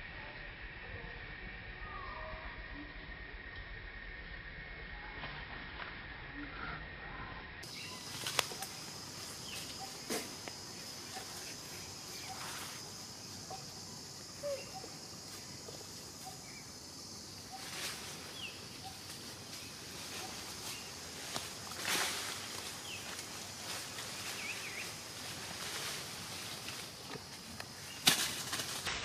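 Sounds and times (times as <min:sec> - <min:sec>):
steady high-pitched hiss: 0:00.0 - 0:29.0.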